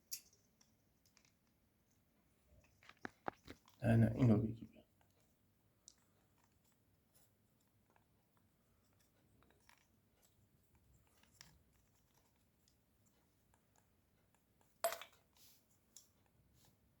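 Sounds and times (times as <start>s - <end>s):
faint clicks and taps: 0.0s - 3.8s, 4.8s - 17.0s.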